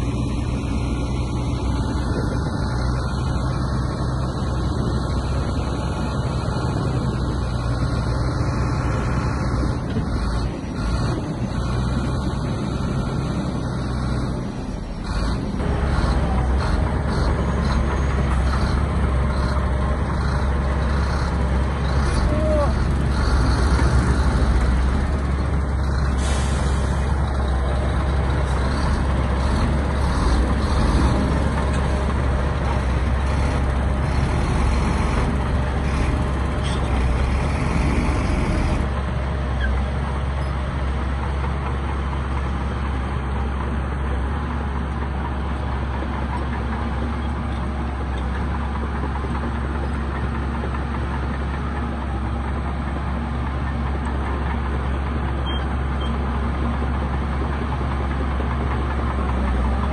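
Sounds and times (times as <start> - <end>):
diesel machinery rumbling: 0.0 - 59.9.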